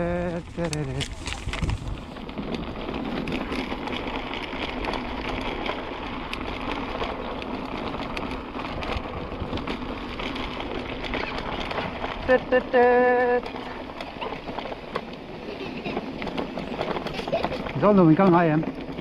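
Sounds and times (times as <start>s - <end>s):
bike tyres rolling on rough track: 0.0s - 19.0s
small clicks and rattles: 0.1s - 19.0s.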